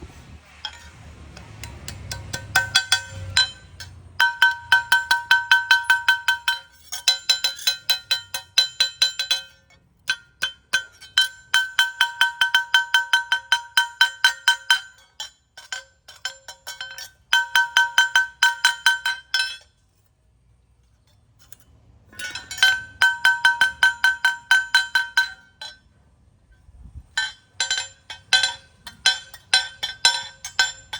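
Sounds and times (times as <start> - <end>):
hammer striking metal on anvil: 0.7 - 19.7, 22.2 - 25.9, 27.2 - 30.9.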